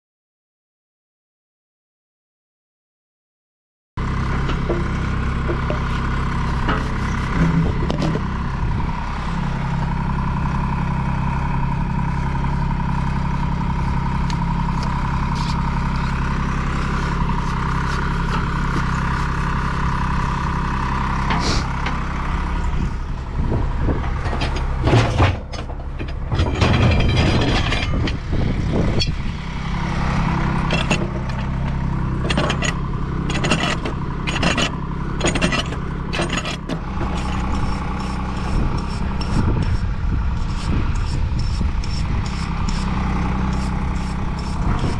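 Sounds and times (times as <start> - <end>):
truck engine idling: 4.0 - 44.9.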